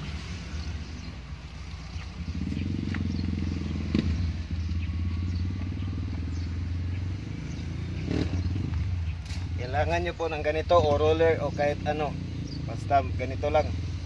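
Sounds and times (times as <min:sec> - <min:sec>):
engine running with pulsing rumble: 0:00.0 - 0:14.0.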